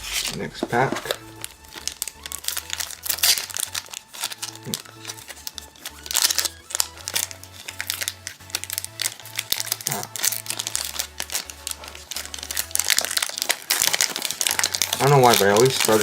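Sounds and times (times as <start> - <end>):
background music with bass: 0.0 - 16.0
plastic wrapper crinkling: 0.0 - 16.0.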